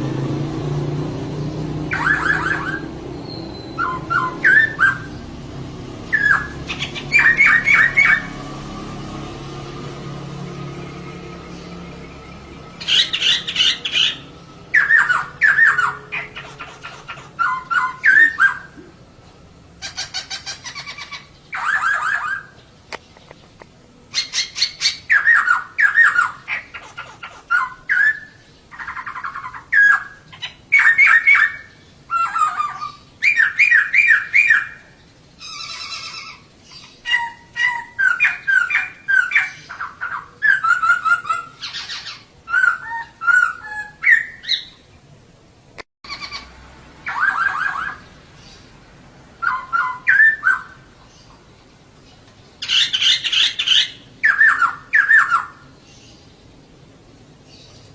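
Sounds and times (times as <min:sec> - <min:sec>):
bird chirping trilled calls: 0:01.2 - 0:45.0, 0:46.0 - 0:48.7, 0:49.4 - 0:56.8.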